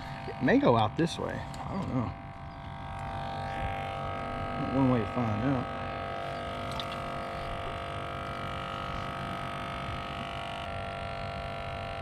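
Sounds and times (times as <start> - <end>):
small motor humming: 0.0 - 12.0.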